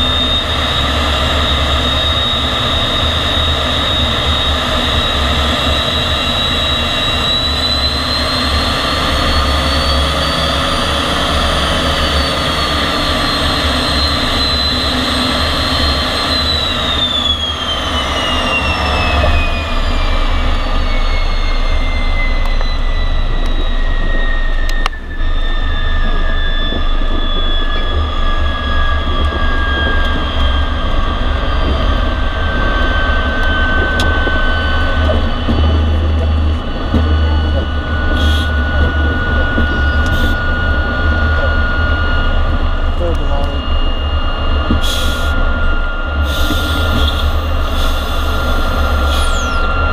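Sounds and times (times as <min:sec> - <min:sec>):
jet engine whine and rumble: 0:00.0 - 0:49.9.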